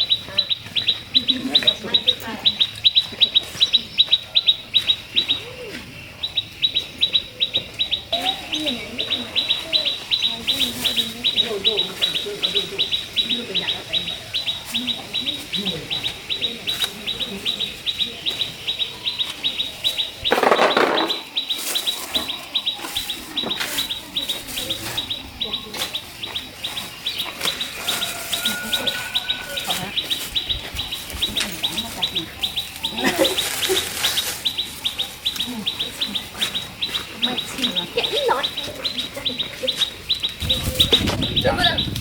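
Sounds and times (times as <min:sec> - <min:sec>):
bird chirping rapidly: 0:06.2 - 0:42.0.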